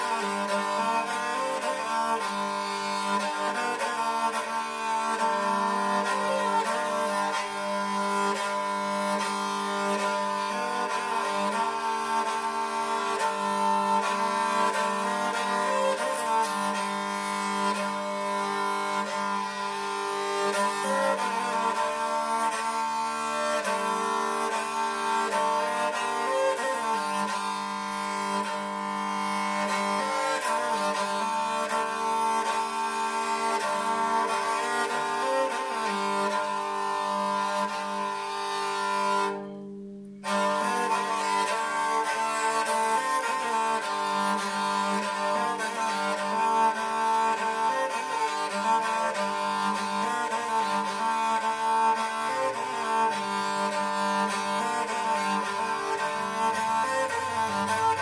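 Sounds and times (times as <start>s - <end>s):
bowed lyre melody over drone: 0.0s - 58.0s.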